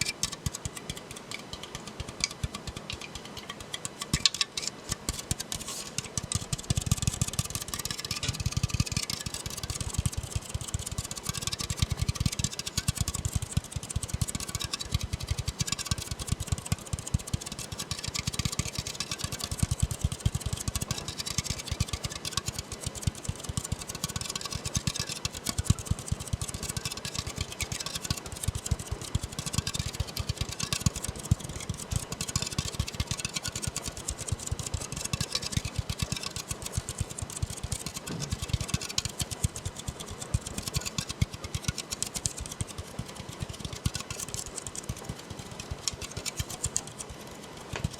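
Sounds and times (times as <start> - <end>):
fingers tapping on soda can: 0.0 - 47.9.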